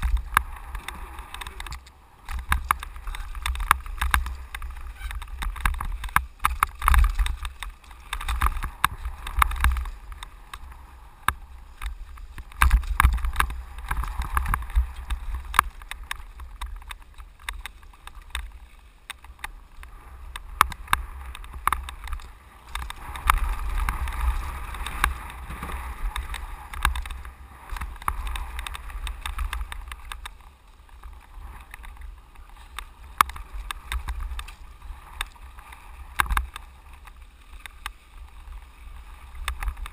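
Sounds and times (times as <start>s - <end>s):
bike tyres clattering over stones: 0.0s - 39.9s
wind rumble on microphone: 0.0s - 39.9s.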